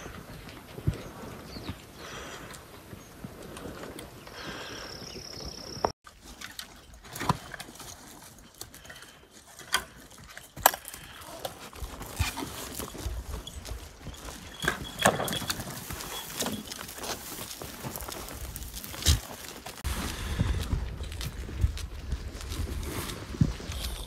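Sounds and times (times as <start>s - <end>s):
hooves clicking on rocky trail: 0.0s - 24.0s.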